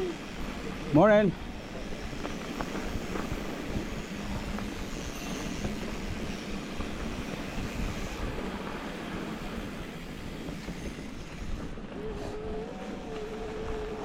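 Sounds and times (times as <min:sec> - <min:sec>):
wind rumbling on microphone: 0:00.0 - 0:14.0
bike tyres rolling over dirt: 0:01.5 - 0:14.0.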